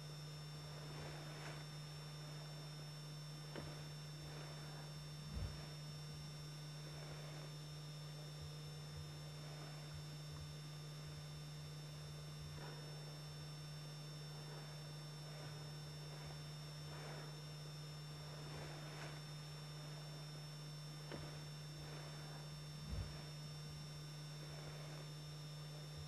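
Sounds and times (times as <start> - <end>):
low hum with hiss: 0.0 - 26.0.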